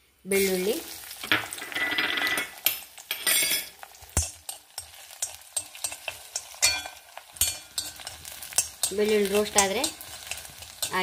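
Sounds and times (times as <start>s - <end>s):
garlic sizzling in hot oil: 0.0s - 11.0s
steel spoon clinking against pan: 1.8s - 11.0s.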